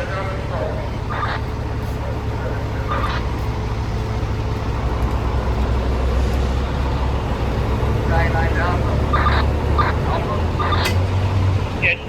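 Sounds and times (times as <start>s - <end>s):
idling heavy vehicles and traffic: 0.0s - 12.0s.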